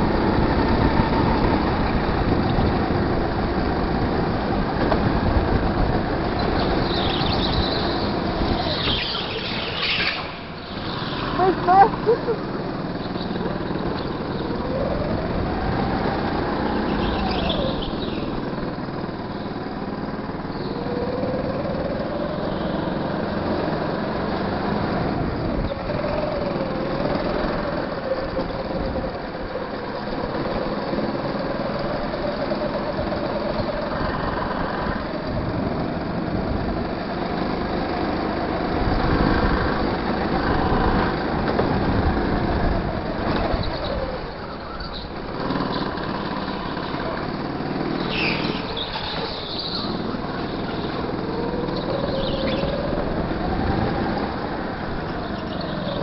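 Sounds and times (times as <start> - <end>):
constant rushing noise: 0.0 - 56.0
go-kart engine: 0.0 - 56.0.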